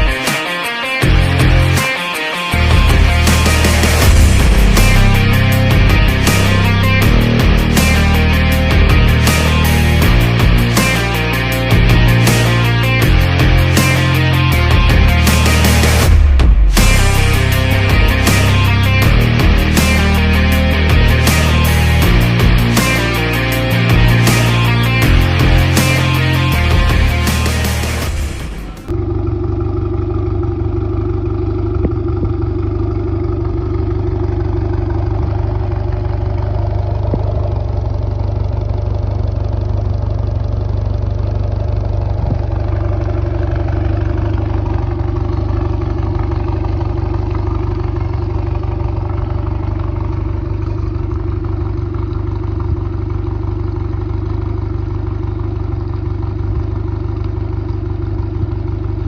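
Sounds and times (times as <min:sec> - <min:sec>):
outboard engine running: 0:02.5 - 0:59.0.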